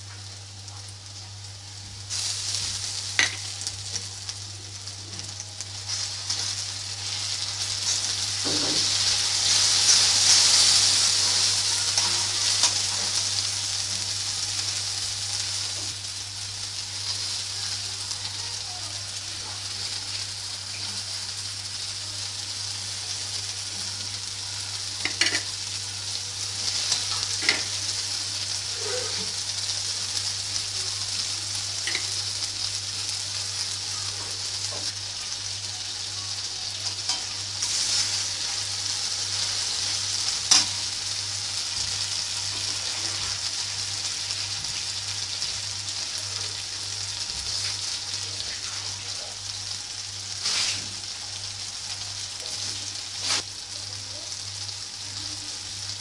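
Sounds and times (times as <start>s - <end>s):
onions and tomatoes sizzling in oil: 0.0s - 56.0s.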